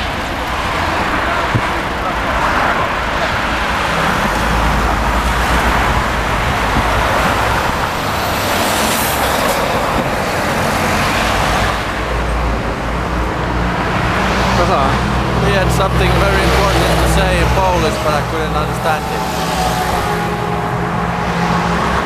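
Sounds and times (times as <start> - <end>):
heavy road traffic: 0.0 - 22.0.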